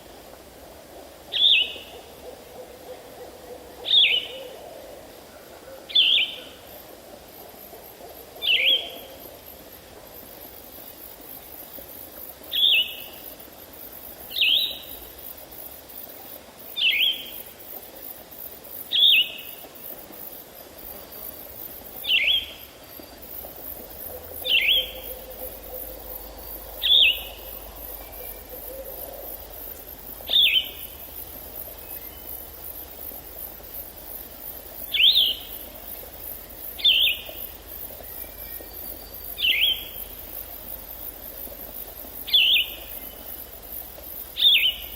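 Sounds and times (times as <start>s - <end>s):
faint high hiss: 0.0s - 44.9s.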